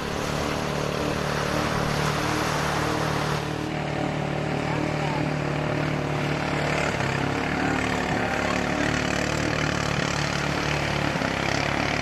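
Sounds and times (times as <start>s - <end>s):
boat engine running: 0.0s - 12.0s
surf washing at shore: 0.0s - 12.0s.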